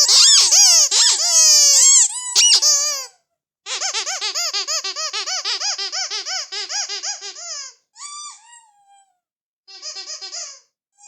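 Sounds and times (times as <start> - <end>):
rubber squeaky toy squeaking: 0.0 - 10.7.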